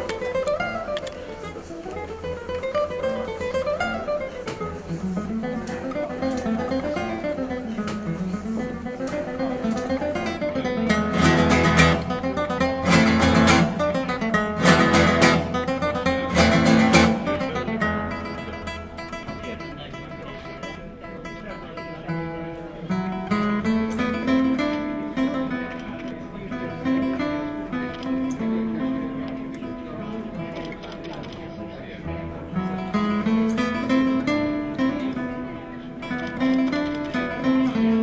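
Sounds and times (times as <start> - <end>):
acoustic guitar picked melody: 0.0 - 38.0
acoustic guitar strummed chords: 0.0 - 38.0.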